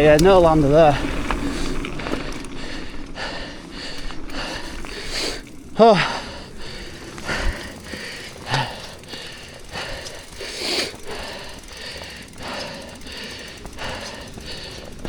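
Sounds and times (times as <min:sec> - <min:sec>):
man breathing hard: 0:01.0 - 0:15.0.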